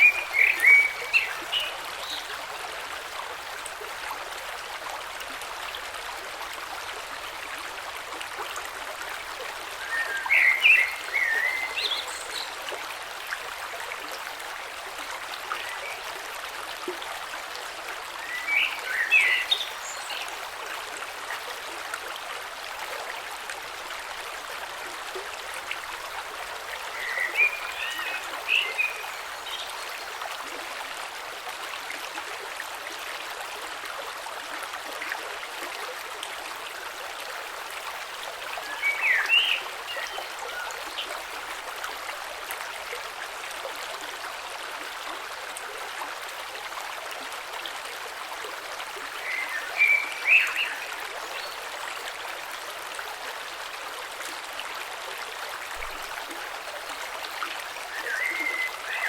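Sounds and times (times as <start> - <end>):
creek flowing and trickling: 0.0 - 59.0.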